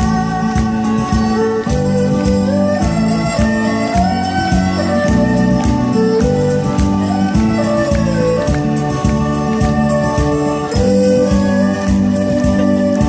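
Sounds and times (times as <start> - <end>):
backing accompaniment with beat: 0.0 - 13.0
erhu melody with sliding notes: 0.0 - 13.0.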